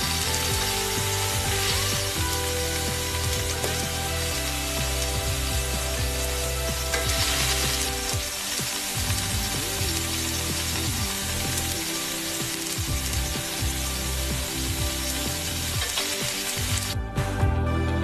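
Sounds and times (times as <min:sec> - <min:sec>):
oil sizzling while deep-frying: 0:00.0 - 0:17.0
music: 0:00.0 - 0:18.0.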